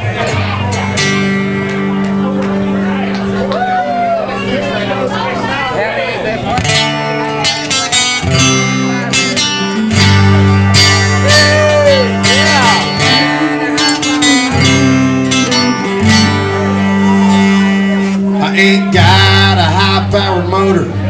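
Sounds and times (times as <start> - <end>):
country band with strummed guitar: 0.0 - 21.0.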